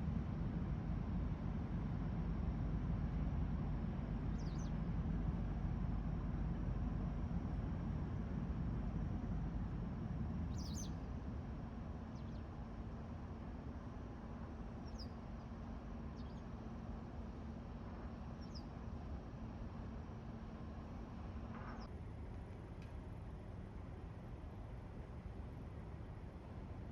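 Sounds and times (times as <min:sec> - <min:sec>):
faint hum: 0:00.0 - 0:26.9.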